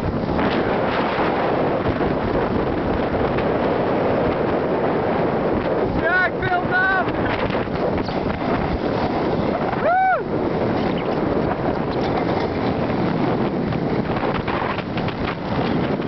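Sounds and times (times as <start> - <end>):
wind over microphone: 0.0 - 16.0.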